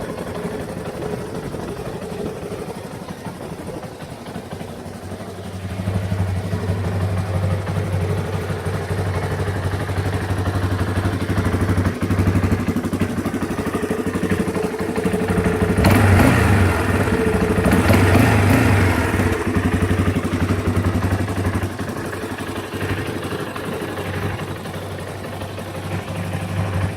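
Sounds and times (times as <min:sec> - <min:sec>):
atv engine running: 0:00.0 - 0:26.9.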